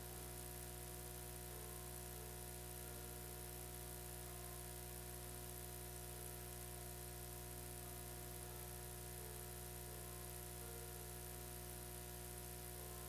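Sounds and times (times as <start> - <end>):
electrical hum and buzz with hiss: 0.0 - 13.0.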